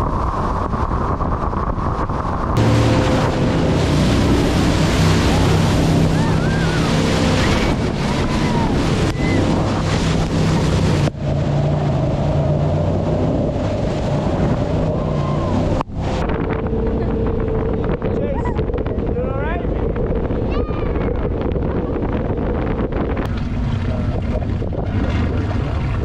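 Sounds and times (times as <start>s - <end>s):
boat engine drone: 0.0s - 26.0s
water rushing: 0.0s - 26.0s
wind buffeting microphone: 0.0s - 26.0s.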